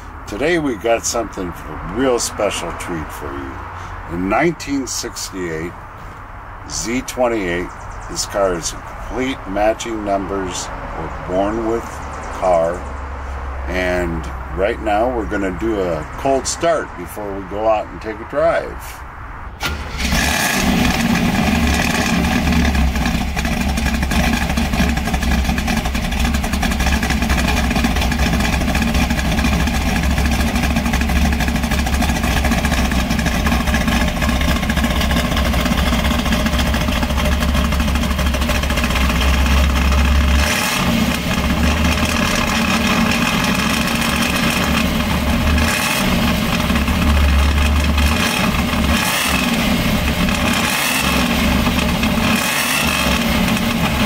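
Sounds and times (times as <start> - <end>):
car engine starting and rumbling: 0.0 - 54.0.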